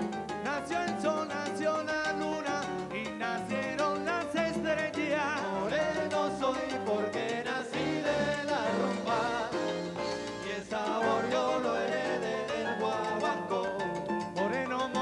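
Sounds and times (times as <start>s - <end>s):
latin rumba band playing: 0.0s - 15.0s
man singing: 0.4s - 9.8s, 10.4s - 15.0s.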